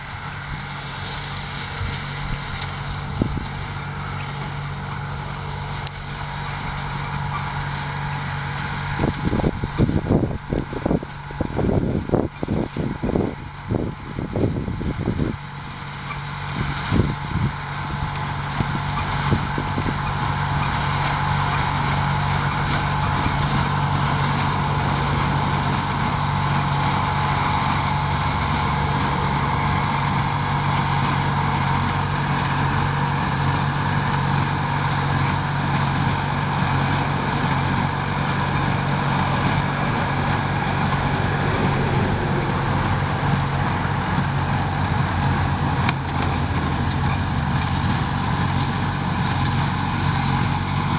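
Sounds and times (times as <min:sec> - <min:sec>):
hay baler engine running: 0:00.0 - 0:50.9.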